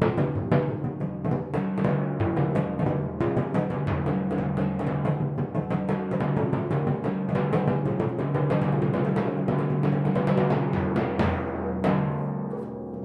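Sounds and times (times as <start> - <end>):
timpani drum roll with mallets: 0.0 - 13.0.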